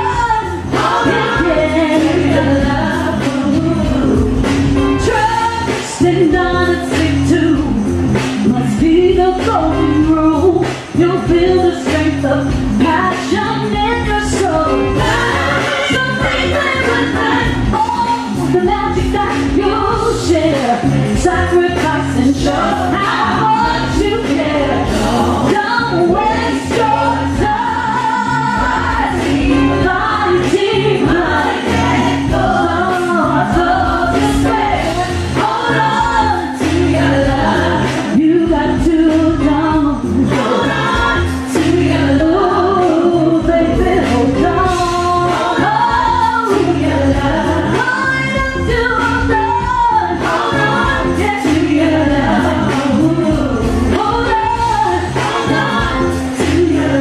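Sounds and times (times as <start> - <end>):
backing singers in harmony: 0.0 - 6.0, 14.7 - 18.5, 20.6 - 57.0
backing track with steady beat: 0.0 - 57.0
woman singing lead: 0.0 - 57.0.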